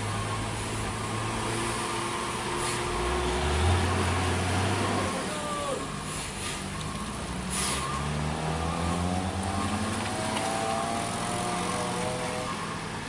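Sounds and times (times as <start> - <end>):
diesel truck engine labouring: 0.0 - 13.0.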